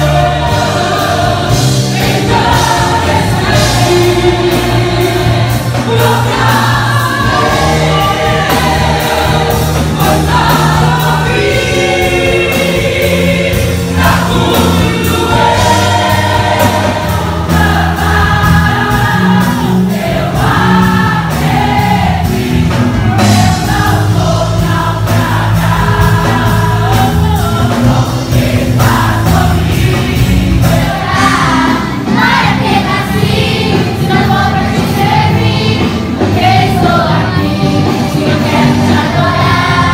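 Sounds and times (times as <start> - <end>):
band with steady beat: 0.0 - 39.9
singers leading congregation: 0.0 - 39.9.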